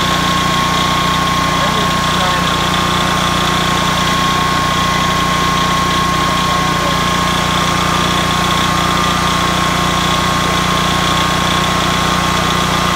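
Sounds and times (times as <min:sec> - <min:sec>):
portable generator running: 0:00.0 - 0:12.9.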